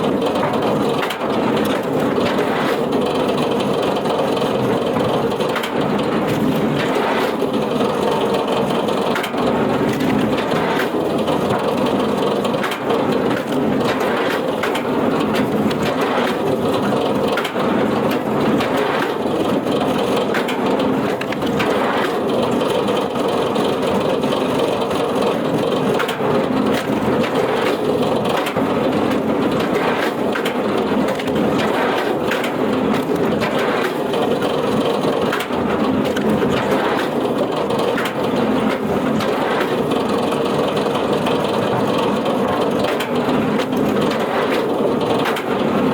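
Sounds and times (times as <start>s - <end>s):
wood crushing machine grinding: 0.0s - 45.9s.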